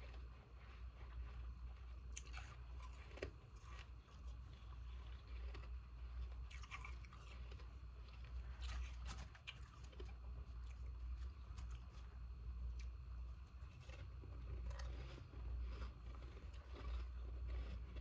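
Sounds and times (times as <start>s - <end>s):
ice being chewed: 0.0s - 18.0s
steady low hum: 0.0s - 18.0s.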